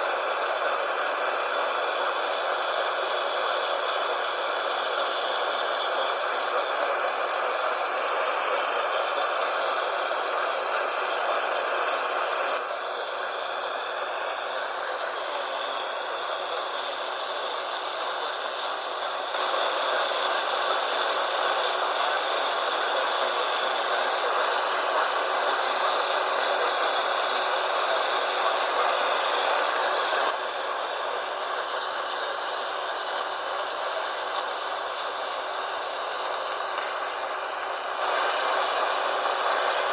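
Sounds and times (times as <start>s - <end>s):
radio static hiss and crackle: 0.0s - 39.9s.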